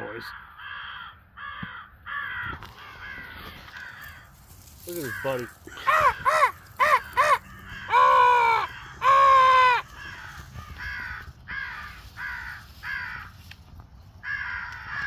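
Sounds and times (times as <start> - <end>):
crows cawing: 0.0 - 13.5, 14.2 - 15.0.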